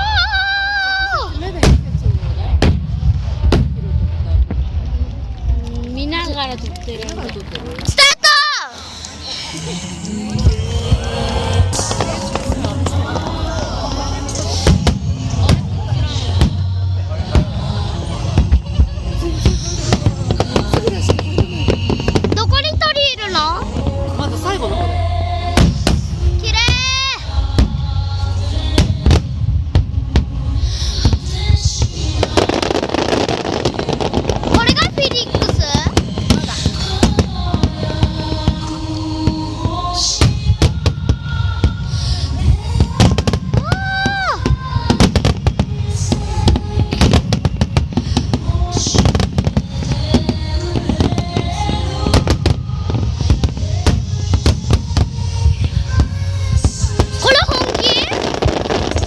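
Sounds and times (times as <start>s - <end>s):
low rumble: 0.0s - 7.9s, 9.0s - 59.0s
fireworks booming: 1.1s - 8.0s, 9.3s - 59.0s
music playing: 8.9s - 59.0s.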